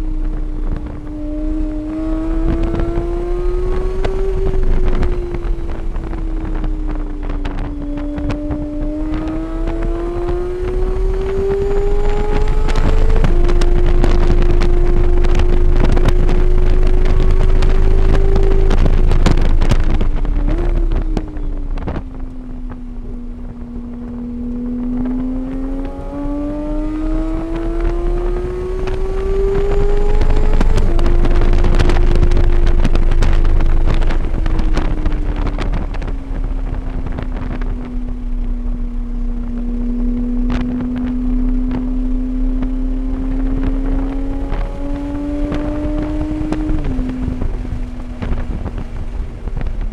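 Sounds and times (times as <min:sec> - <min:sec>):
race car engine: 0:00.0 - 0:49.9
wind buffeting microphone: 0:00.0 - 0:49.9.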